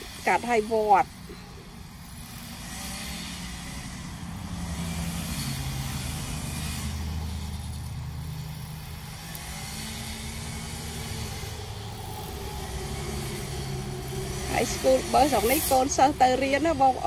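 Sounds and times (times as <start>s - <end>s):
string trimmer engine running: 0.0s - 17.0s.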